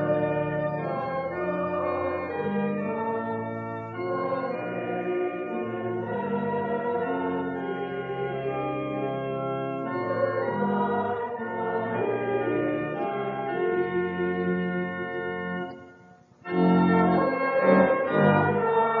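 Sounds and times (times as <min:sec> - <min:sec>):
congregation singing a hymn: 0:00.0 - 0:15.7, 0:16.4 - 0:19.0
church organ chords: 0:00.0 - 0:19.0.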